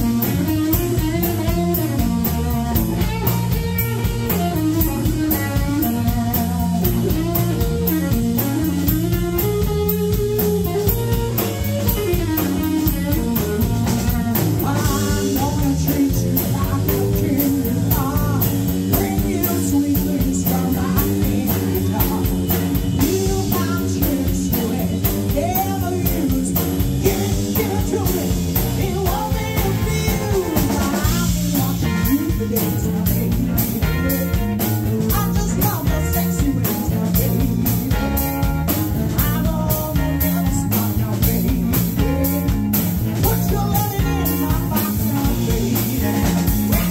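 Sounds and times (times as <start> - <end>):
drum kit: 0.0 - 46.9
electric guitars: 0.0 - 46.9
woman singing: 4.0 - 8.9, 11.9 - 46.9.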